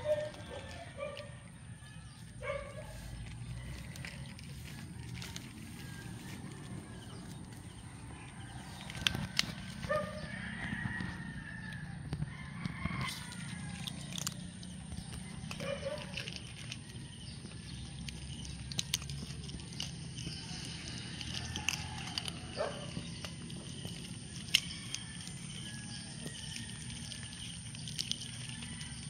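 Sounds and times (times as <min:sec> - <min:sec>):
kittens crunching kibble: 0:00.0 - 0:29.0.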